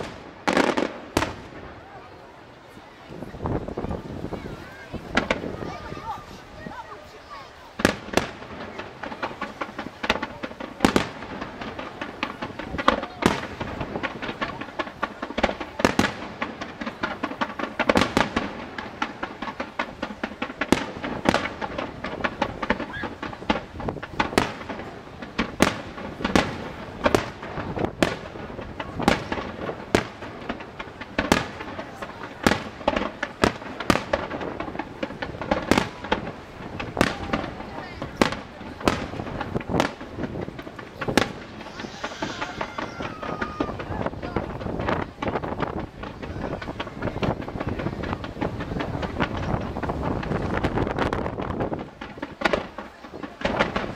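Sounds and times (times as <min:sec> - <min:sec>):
fireworks crackling and fizzing: 0:00.0 - 0:53.9
firework shells bursting: 0:07.8 - 0:53.9.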